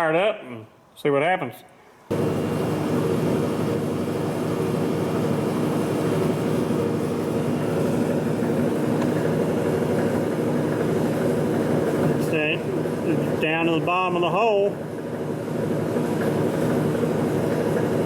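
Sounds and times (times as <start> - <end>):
milling machine running: 2.1 - 18.0.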